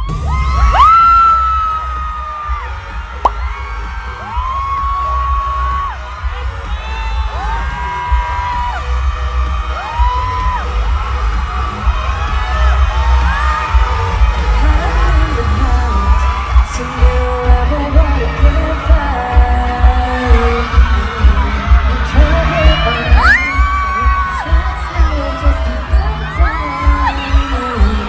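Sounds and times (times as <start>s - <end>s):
heavy bass beat: 0.0s - 28.0s.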